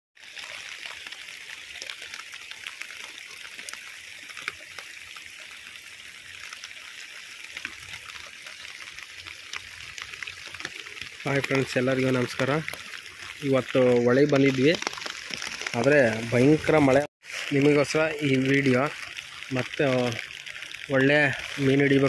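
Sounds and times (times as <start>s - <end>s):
heavy rain on rocks and water: 0.2s - 22.0s.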